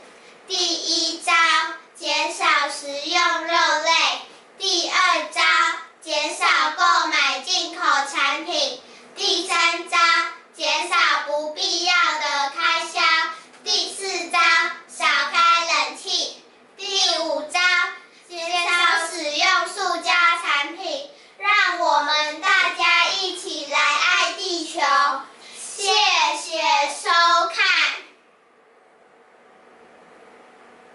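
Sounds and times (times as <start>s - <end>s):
child talking: 0.5s - 28.2s.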